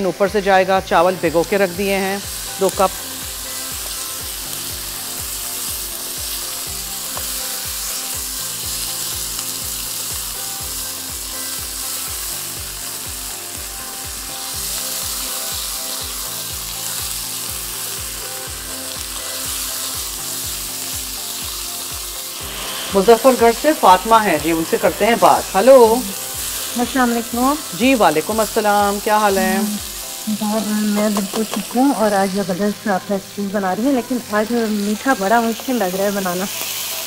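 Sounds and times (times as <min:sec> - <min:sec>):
food sizzling in a pan: 0:00.0 - 0:37.0
background music with low beat: 0:00.1 - 0:34.9.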